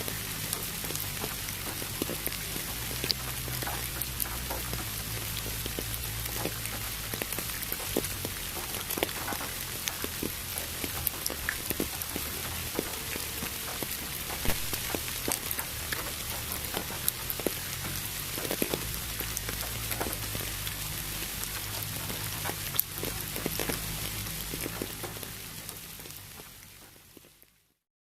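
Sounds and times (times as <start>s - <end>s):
rain falling: 0.0s - 27.8s.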